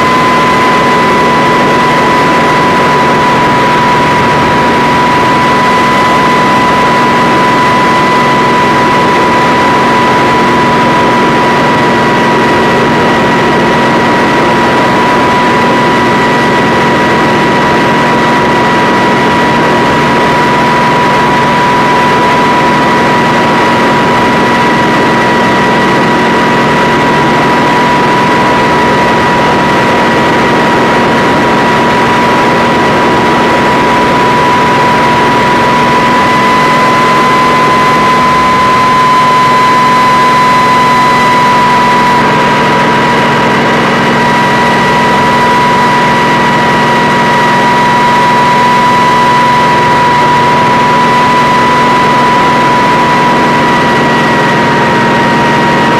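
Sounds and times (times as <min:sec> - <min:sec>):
helicopter engine drone: 0:00.0 - 0:55.9.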